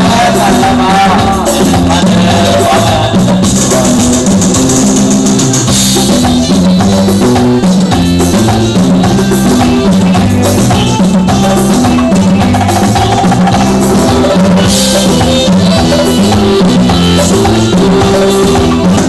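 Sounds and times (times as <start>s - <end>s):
bass line: 0.0s - 19.0s
electronic keyboard: 0.0s - 19.0s
steady drum beat: 0.0s - 19.0s.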